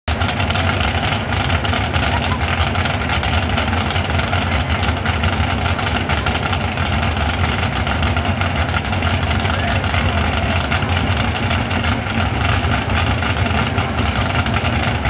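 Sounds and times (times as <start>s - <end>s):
truck engine running: 0.1s - 15.0s.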